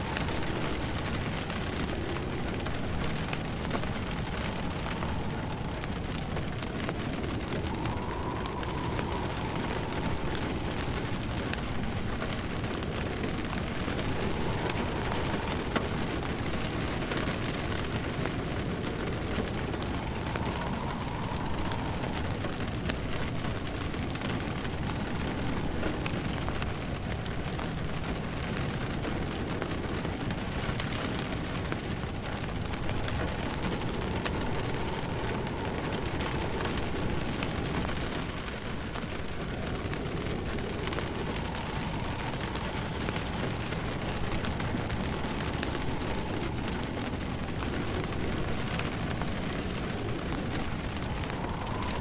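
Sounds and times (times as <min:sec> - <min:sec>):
faint wind moan: 0:00.0 - 0:52.0
rain falling: 0:00.0 - 0:52.0
wood fire crackling: 0:00.0 - 0:52.0.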